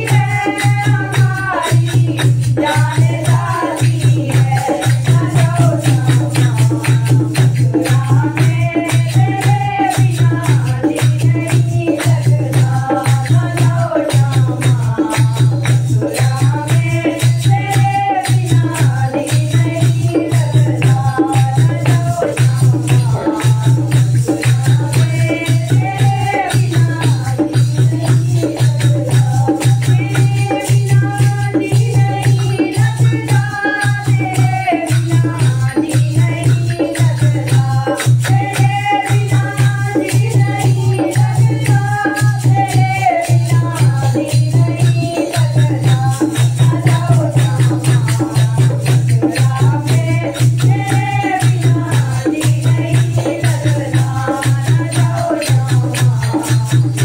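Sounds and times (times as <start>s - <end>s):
jingling hand percussion: 0.0s - 57.0s
women singing together: 0.0s - 57.0s.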